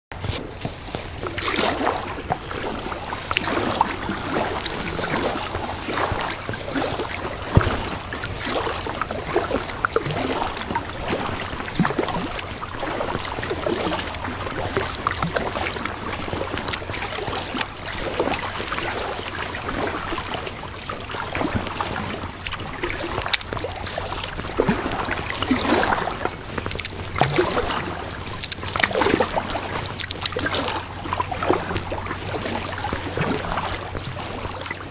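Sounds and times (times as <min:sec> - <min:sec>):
kayak paddle splashing water: 0:00.1 - 0:34.9
trickling water: 0:00.1 - 0:34.9.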